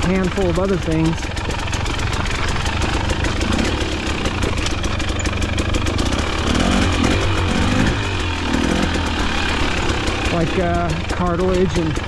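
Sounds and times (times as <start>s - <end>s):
dirt bike engine idling: 0.0s - 12.0s
rapid ticking: 0.0s - 12.0s.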